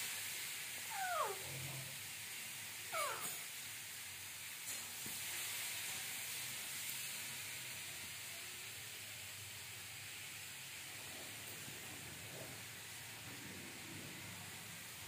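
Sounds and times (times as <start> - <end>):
faint room noise hiss: 0.0 - 15.0.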